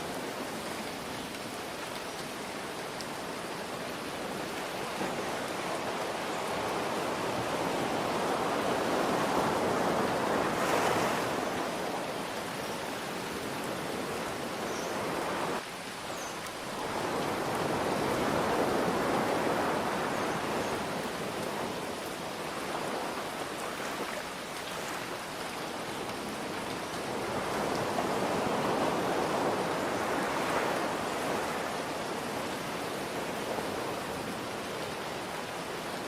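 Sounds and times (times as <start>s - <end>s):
ocean surf: 0.0s - 15.7s, 16.4s - 36.0s
rain hiss: 0.0s - 36.0s.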